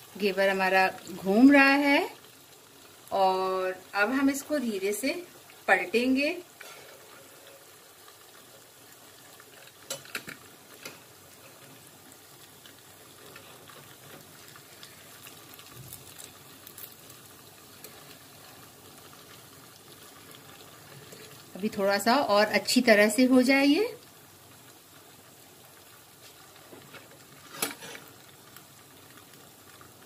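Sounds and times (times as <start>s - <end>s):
batter sizzling in oil: 0.0s - 30.0s.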